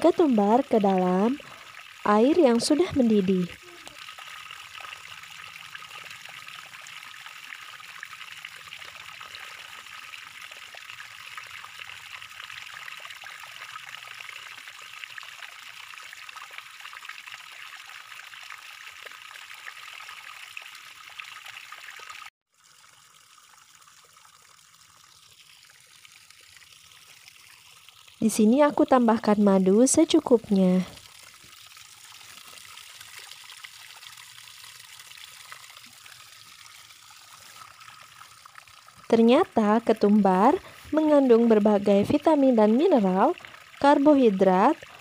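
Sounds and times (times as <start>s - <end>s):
water boiling in pot: 0.0s - 45.0s.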